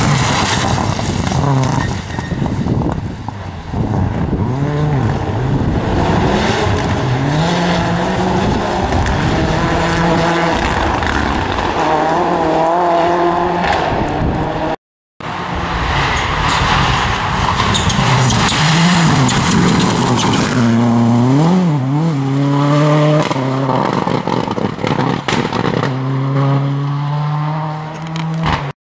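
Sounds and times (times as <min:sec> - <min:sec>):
rally car engine revving: 0:00.0 - 0:28.7
tyre and road noise: 0:00.0 - 0:28.7.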